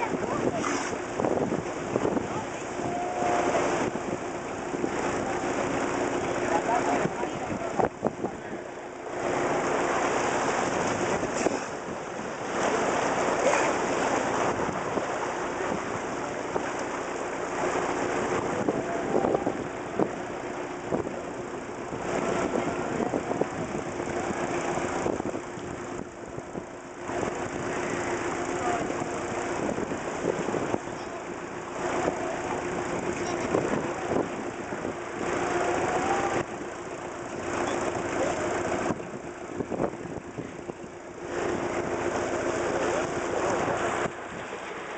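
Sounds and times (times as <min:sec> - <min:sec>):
boat engine humming: 0:00.0 - 0:44.9
sea wash: 0:00.0 - 0:44.9
wind: 0:00.0 - 0:44.9.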